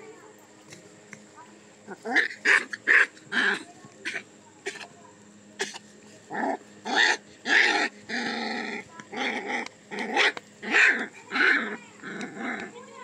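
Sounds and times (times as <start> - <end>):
puppies growling: 1.8 - 5.0, 5.6 - 13.0.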